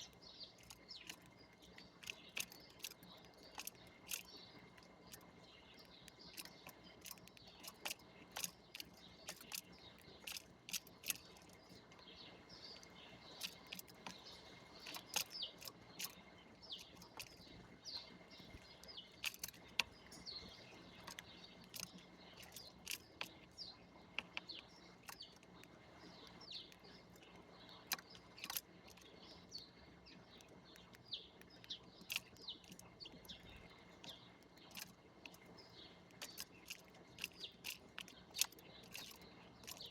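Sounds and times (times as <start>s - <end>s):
sharp clicks and ticks: 0.0s - 39.9s
small birds chirping: 0.0s - 39.9s.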